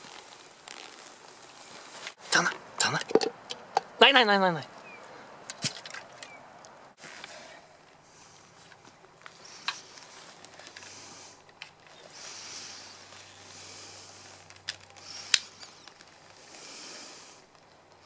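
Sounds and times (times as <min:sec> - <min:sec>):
rustling: 0:00.0 - 0:02.3, 0:04.9 - 0:18.0.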